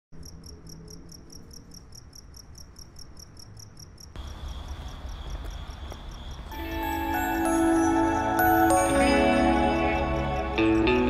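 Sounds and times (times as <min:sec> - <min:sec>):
crickets chirping: 0:00.2 - 0:11.0.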